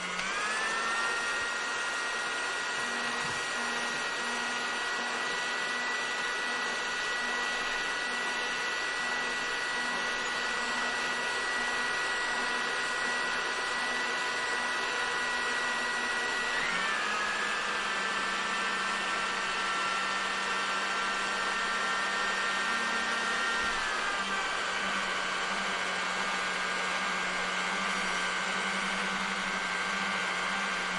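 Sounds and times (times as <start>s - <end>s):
hair dryer running: 0.0s - 30.9s.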